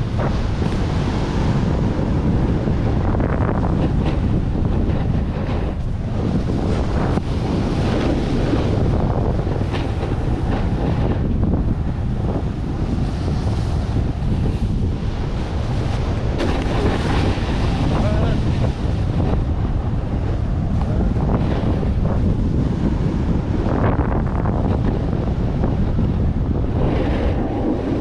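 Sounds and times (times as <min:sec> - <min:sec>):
wind on microphone: 0:00.0 - 0:28.0.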